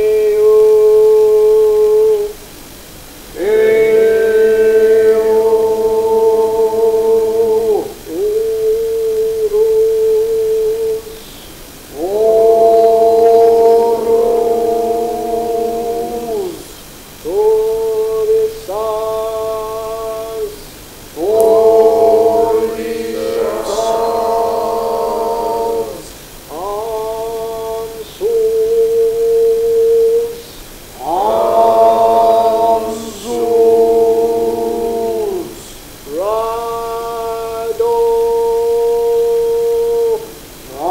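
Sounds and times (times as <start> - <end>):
slow vocal chant: 0.0 - 40.9.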